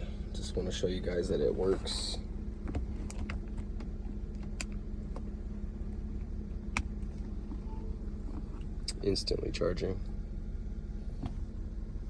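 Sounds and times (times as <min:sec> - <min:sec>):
car low hum: 0:00.0 - 0:12.0.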